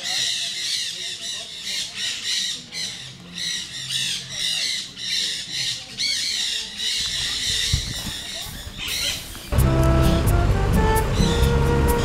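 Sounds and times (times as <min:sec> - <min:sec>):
birds squawking: 0:00.0 - 0:12.0.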